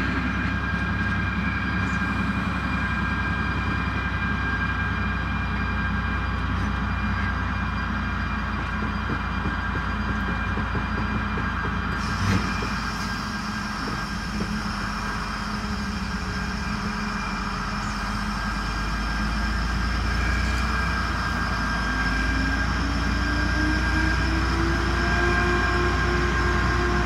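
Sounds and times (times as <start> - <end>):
locomotive engine deep rumble: 0.0 - 27.0.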